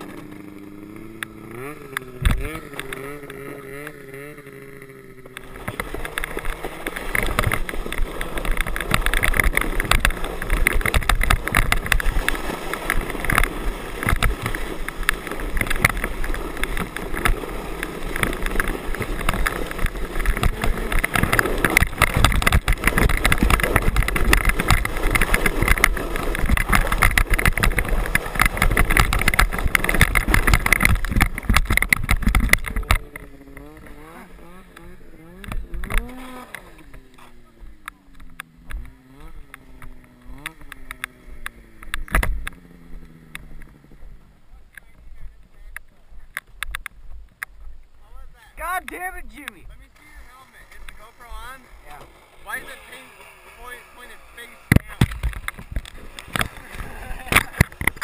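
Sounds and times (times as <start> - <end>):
sled rushing over snow and ice: 0.0 - 44.2, 49.6 - 58.0
bumps and rattles: 0.0 - 58.0.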